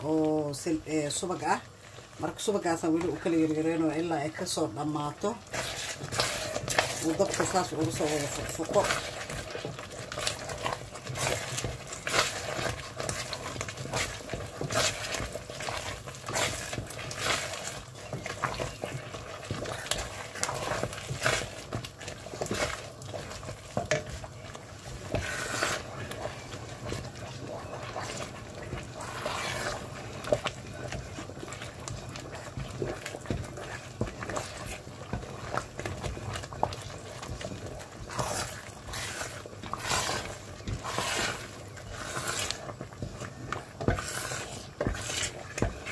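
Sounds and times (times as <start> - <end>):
thick food bubbling and plopping: 0.0 - 45.9
spatula scraping a steel pot: 5.2 - 45.9.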